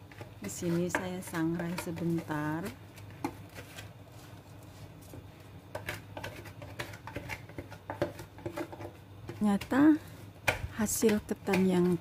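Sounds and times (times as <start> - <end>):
low steady hum: 0.0 - 12.0
rice ticking and scraping in wok: 0.0 - 12.0.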